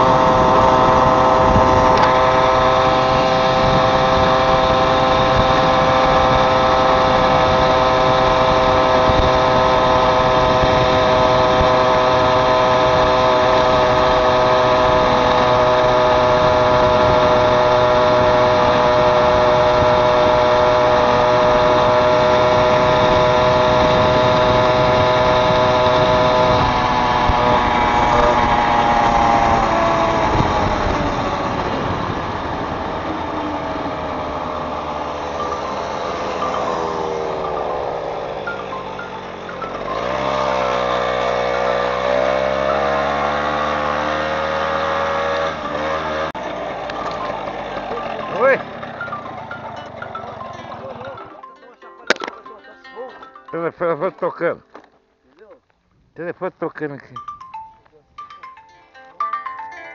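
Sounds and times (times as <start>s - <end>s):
moped engine running: 0.0s - 55.8s.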